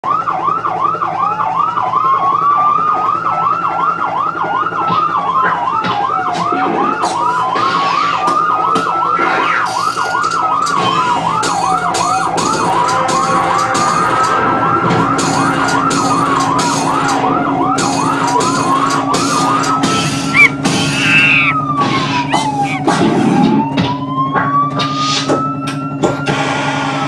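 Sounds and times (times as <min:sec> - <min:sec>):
siren wail: 0:00.0 - 0:26.6
siren yelp: 0:00.0 - 0:26.6.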